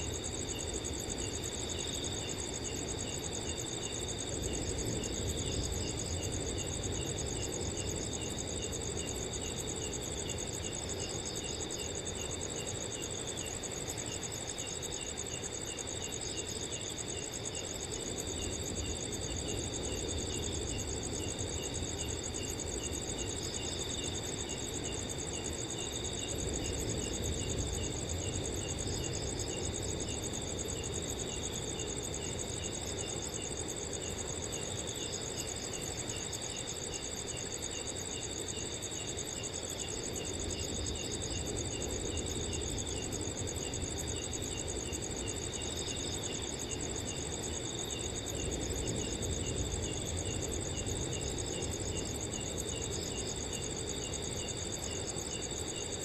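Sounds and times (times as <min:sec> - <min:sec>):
crickets chirping chorus: 0:00.0 - 0:56.0
low rush of wind: 0:00.0 - 0:56.0.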